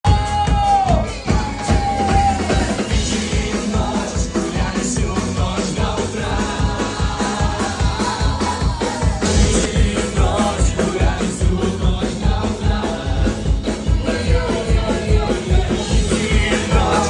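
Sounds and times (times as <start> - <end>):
live pop-rock band: 0.0 - 17.0
steady drum beat: 0.0 - 17.0.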